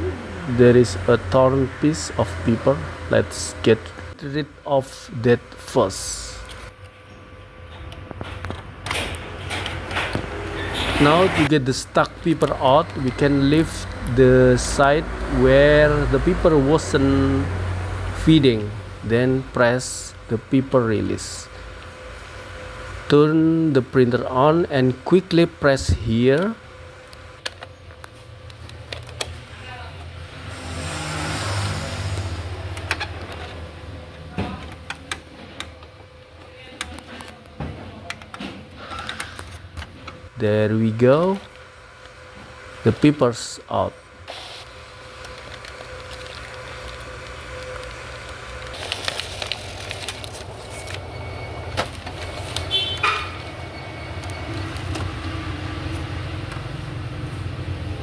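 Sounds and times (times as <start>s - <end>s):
printer motors whirring: 7.5s - 58.0s.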